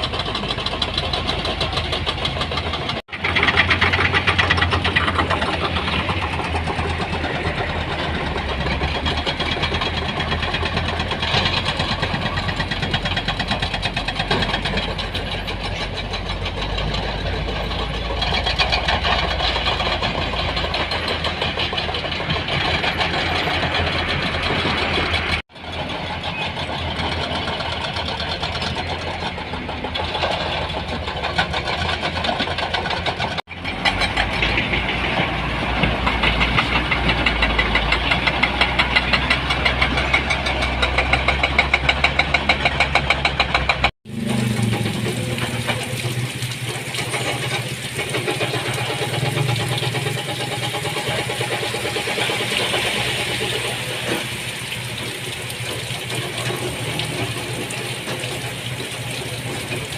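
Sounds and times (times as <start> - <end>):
heavy vehicle engines running: 0.0 - 59.9.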